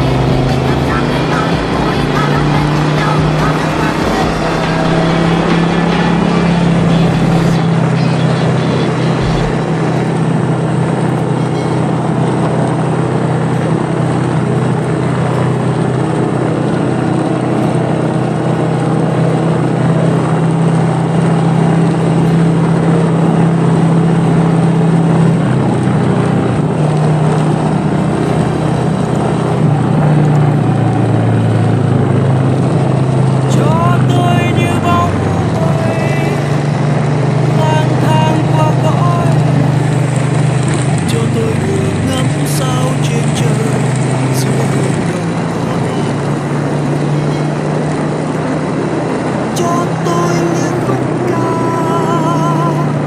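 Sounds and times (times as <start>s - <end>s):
motorcycle engine running: 0.0s - 53.0s
rushing noise: 0.0s - 53.0s.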